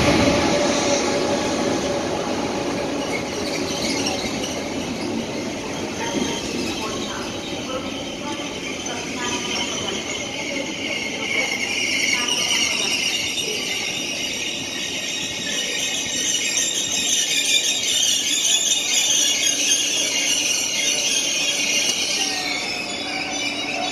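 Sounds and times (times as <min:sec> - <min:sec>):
high-pitched train brake squeal: 0:00.0 - 0:23.9
low train running rumble: 0:00.0 - 0:23.9.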